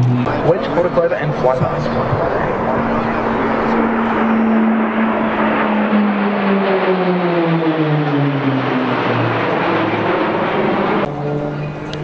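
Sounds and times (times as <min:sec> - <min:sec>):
propeller aircraft drone: 0:00.0 - 0:12.0.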